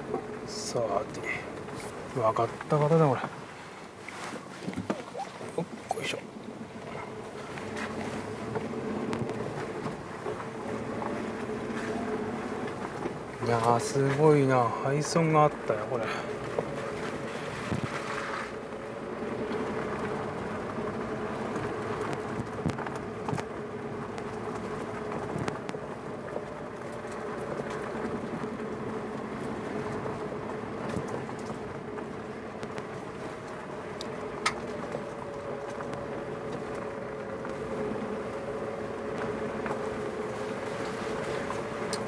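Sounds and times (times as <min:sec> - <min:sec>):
car engine running at low speed: 0:00.0 - 0:42.0
tyre and road noise: 0:00.0 - 0:42.0.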